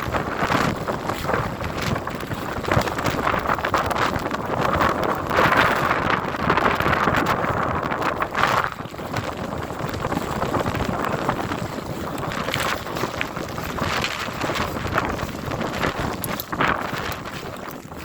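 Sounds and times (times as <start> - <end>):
blizzard wind buffeting microphone: 0.0 - 18.0.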